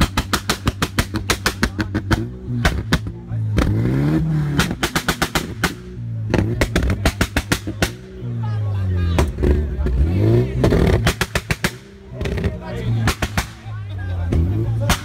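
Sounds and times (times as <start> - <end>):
exhaust bangs and pops: 0.0 - 8.4, 9.1 - 15.0
car engine revving: 0.0 - 15.0.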